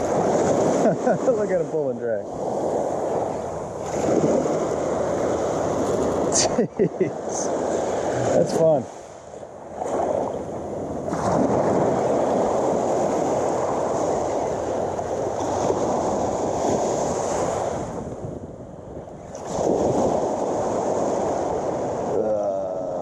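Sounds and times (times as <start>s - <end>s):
small surf waves breaking: 0.0s - 23.0s
wind buffeting microphone: 0.0s - 23.0s.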